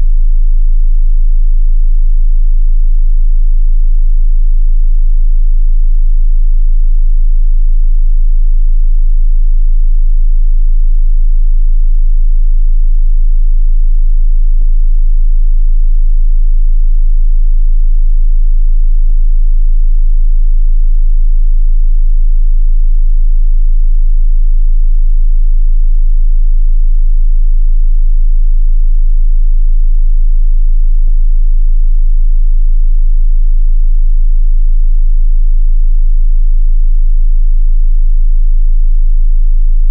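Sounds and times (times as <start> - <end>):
deep sub-bass test tone: 0.0 - 39.9.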